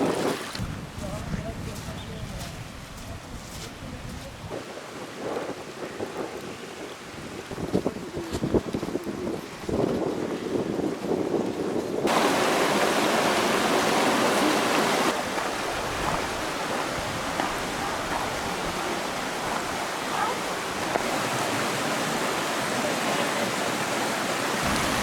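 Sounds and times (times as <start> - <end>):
stream water rushing: 0.0 - 11.2, 12.0 - 25.0.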